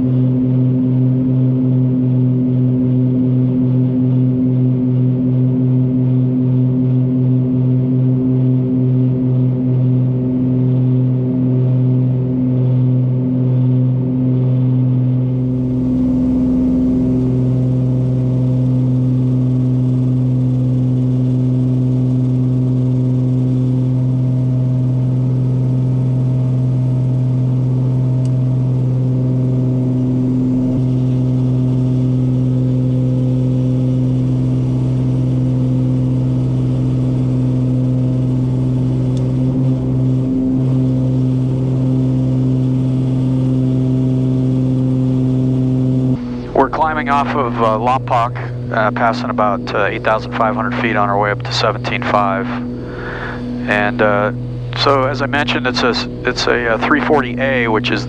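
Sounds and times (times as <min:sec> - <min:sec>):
propeller plane engines droning: 0:00.0 - 0:58.0.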